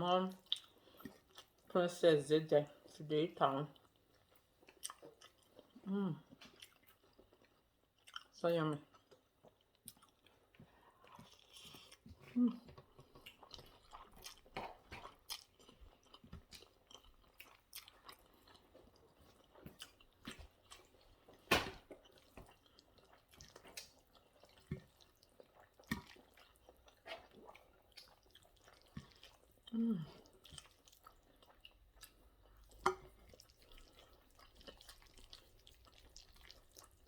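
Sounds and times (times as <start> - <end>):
wet chewing and mouth smacks: 0.3 - 1.7, 3.7 - 37.0.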